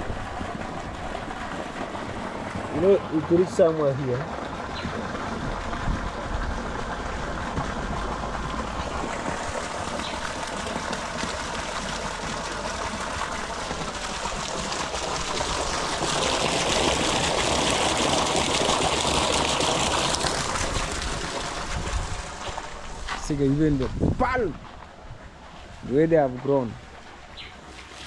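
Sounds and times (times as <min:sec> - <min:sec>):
water gushing into pond: 0:00.0 - 0:28.0.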